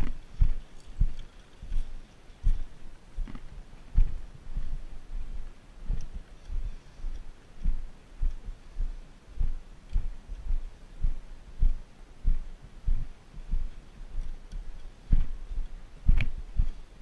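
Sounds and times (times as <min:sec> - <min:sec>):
footsteps walking: 0:00.0 - 0:16.9.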